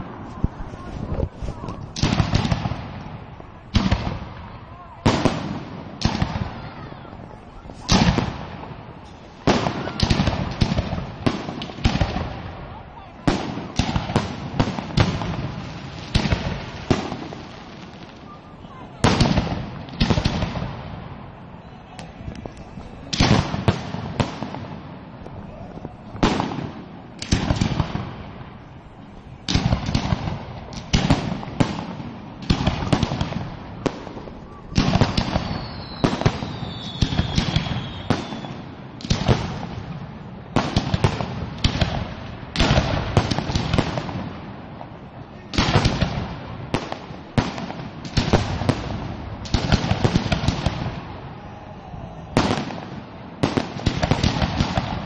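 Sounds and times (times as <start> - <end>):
fireworks banging: 0.0 - 51.4, 52.3 - 55.0
fireworks crackling: 0.0 - 55.0.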